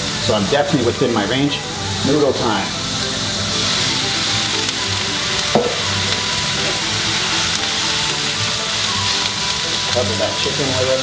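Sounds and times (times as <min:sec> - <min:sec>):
food sizzling in a skillet: 0:00.0 - 0:11.0
spatula stirring: 0:02.0 - 0:11.0.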